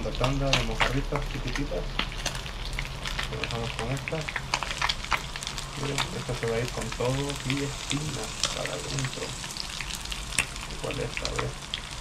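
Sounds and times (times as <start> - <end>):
fish sizzling in hot oil: 0.0 - 12.0
spitting oil pops and crackles: 0.0 - 12.0.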